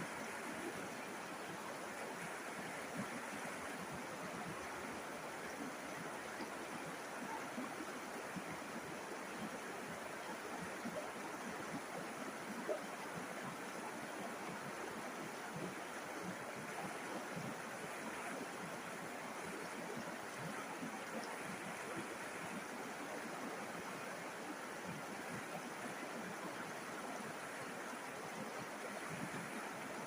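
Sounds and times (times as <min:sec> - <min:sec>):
river water flowing over stones: 0:00.0 - 0:30.0.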